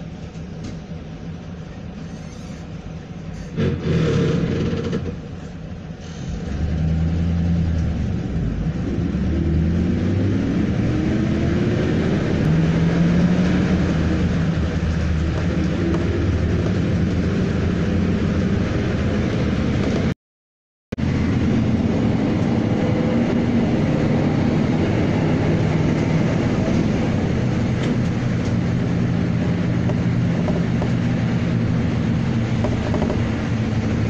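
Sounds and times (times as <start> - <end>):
vehicle ride rumble: 0.0 - 20.2, 20.9 - 34.0.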